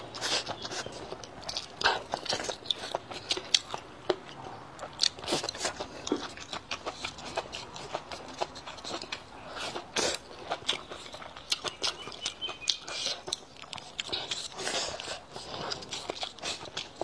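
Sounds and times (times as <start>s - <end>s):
person chewing and biting food: 0.0s - 17.0s.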